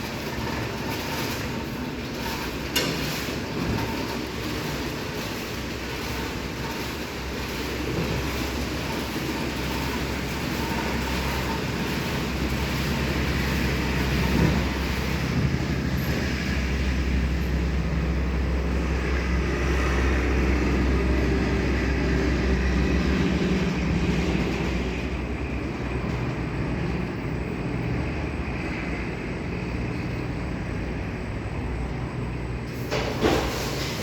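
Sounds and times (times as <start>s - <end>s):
car wash machine rumbling: 0.0s - 34.0s.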